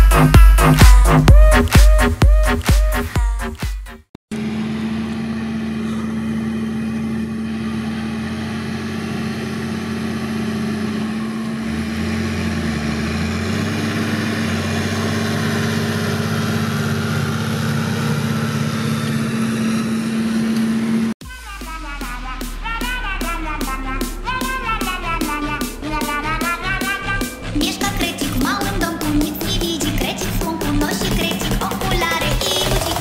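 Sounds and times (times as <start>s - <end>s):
tractor diesel engine running: 4.3s - 21.2s, 23.0s - 33.0s.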